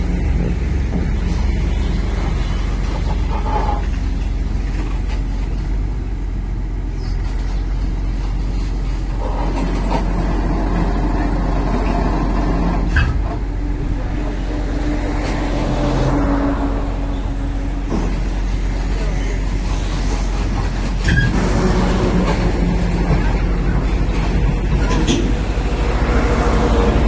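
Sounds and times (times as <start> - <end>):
excavator diesel engine running: 0.0 - 27.0
hydraulics moving: 0.0 - 27.0.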